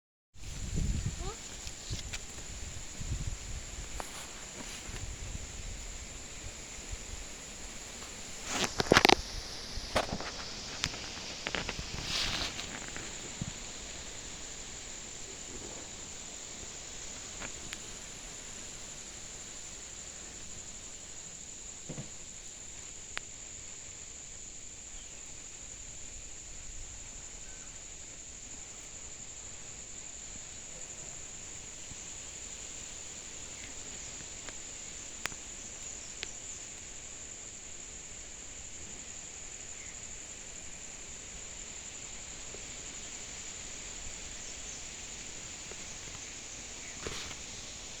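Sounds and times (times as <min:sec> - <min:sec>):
insects chirring: 0:00.4 - 0:48.0.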